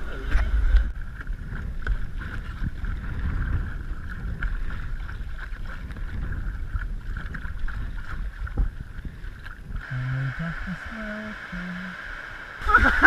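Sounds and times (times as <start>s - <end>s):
wind buffeting microphone: 0.0s - 10.9s
water washing around kayak: 0.0s - 13.0s.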